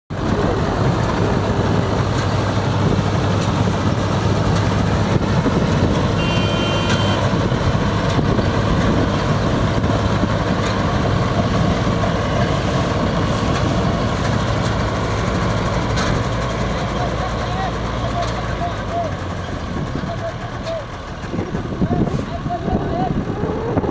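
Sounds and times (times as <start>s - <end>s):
combine harvester droning: 0.1s - 23.9s.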